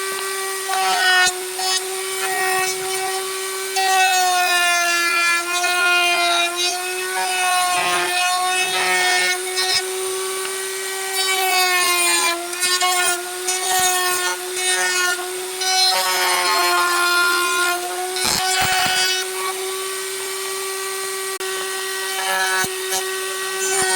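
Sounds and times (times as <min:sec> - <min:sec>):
turning tool scraping wood: 0:00.0 - 0:20.9
wood lathe running: 0:00.0 - 0:23.9.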